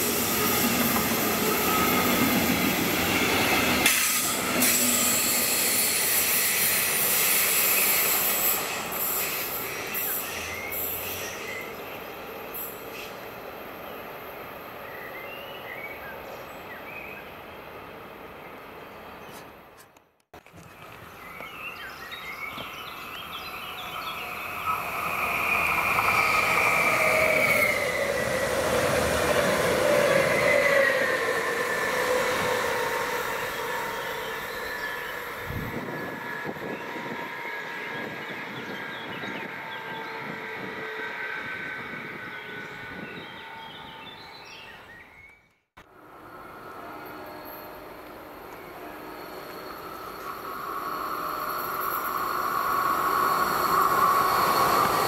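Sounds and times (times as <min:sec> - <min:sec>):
electric train passing: 0:00.0 - 0:19.1, 0:21.8 - 0:44.4, 0:45.8 - 0:55.0.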